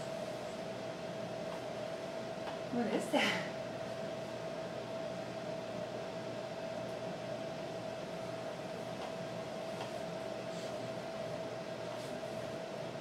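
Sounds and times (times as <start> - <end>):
mid-pitched hum: 0.0 - 13.0.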